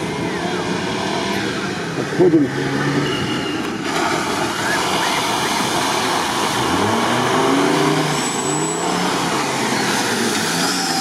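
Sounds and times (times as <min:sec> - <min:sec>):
off-road engines revving: 0:00.0 - 0:11.0
steady noisy rush: 0:00.0 - 0:11.0.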